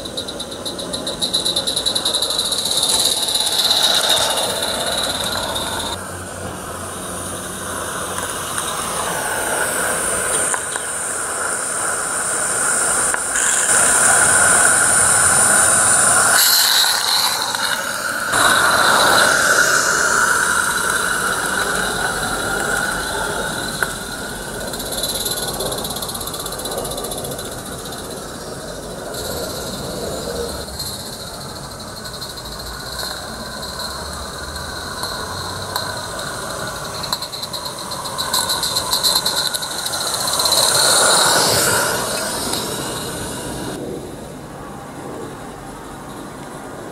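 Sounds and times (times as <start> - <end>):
model steam locomotive running: 0.0 - 46.9.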